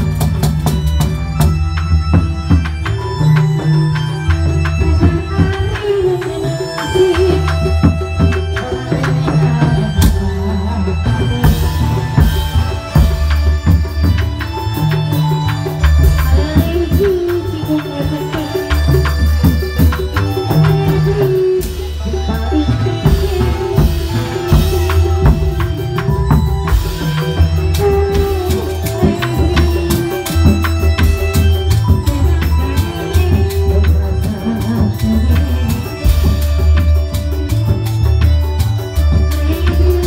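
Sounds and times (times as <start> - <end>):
drums beating: 0.0 - 40.0
wavering melody line: 0.0 - 40.0.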